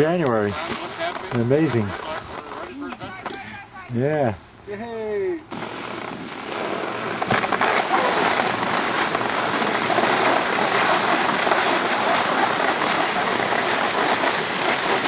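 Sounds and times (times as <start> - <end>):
skis sliding over snow: 0.0 - 3.2, 5.5 - 15.0.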